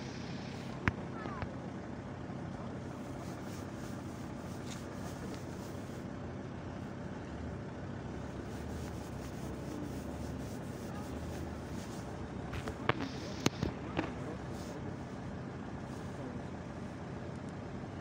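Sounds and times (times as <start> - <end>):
diesel railbus idling: 0.0 - 18.0.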